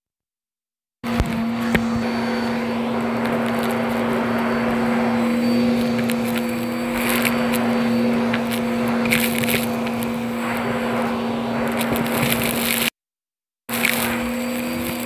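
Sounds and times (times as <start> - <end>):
vacuum cleaner humming: 1.0 - 12.9, 13.7 - 15.0
debris rattling up vacuum wand: 1.1 - 12.9, 13.7 - 15.0.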